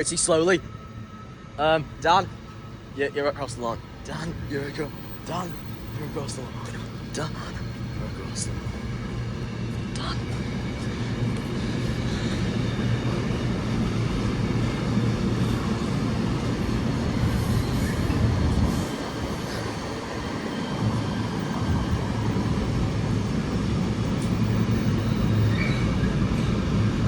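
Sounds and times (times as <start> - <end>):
freight train rumbling: 0.0 - 27.0.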